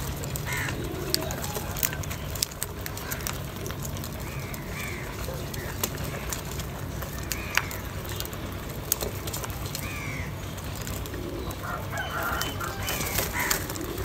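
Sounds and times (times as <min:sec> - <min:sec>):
crows cawing harshly: 0:00.3 - 0:08.3, 0:09.6 - 0:10.6, 0:11.2 - 0:14.0.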